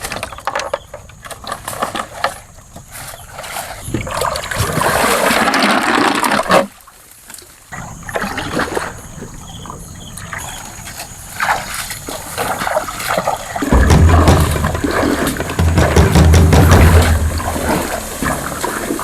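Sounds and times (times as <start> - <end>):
water splashing and dribbling: 1.2 - 19.0.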